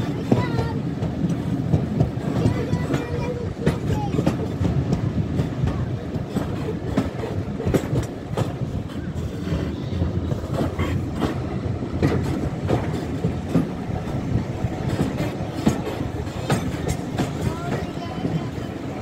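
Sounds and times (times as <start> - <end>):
carriage wheels rumbling on track: 0.0 - 19.0
wheels clicking over rail joints: 0.0 - 19.0.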